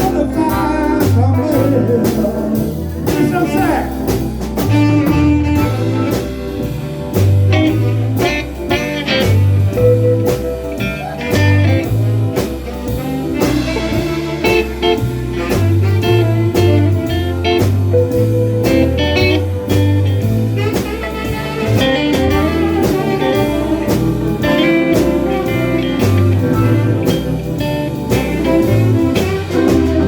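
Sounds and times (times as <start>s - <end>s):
drums: 0.0s - 30.0s
guitar lead: 0.0s - 30.0s
pulsing bass line: 0.0s - 30.0s.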